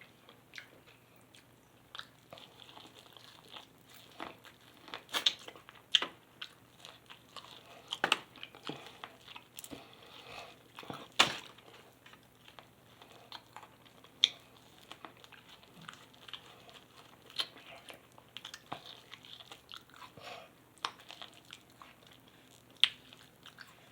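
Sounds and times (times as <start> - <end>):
person chewing food: 0.0 - 23.9.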